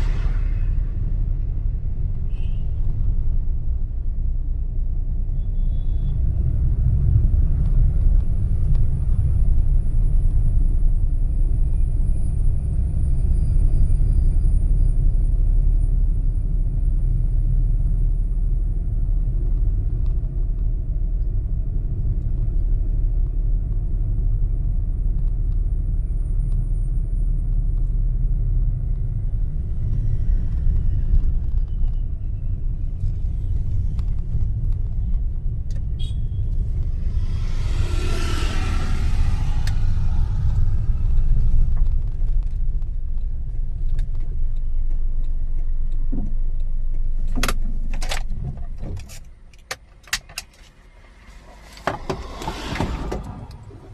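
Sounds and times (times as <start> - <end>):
moving vehicle rumble: 0.0 - 53.9.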